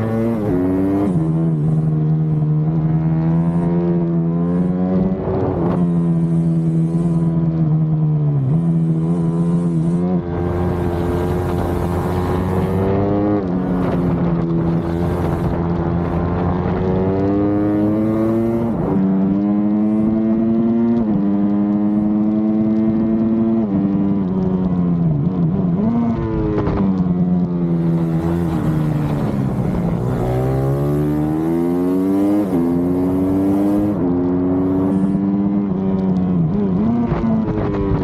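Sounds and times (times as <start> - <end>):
small motorcycle engine revving: 0.0 - 7.4, 8.0 - 24.2, 25.7 - 38.0.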